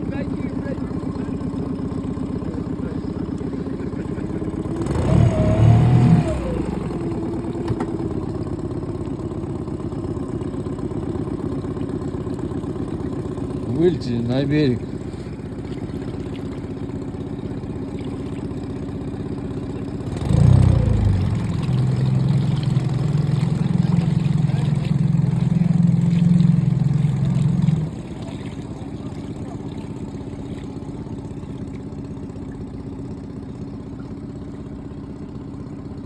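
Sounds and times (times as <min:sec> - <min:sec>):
outboard motor idling and revving: 0:00.0 - 0:36.0.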